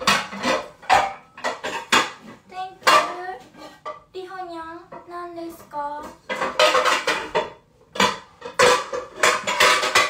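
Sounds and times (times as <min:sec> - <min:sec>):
pots and pans clattering: 0:00.0 - 0:04.1, 0:04.9 - 0:10.0.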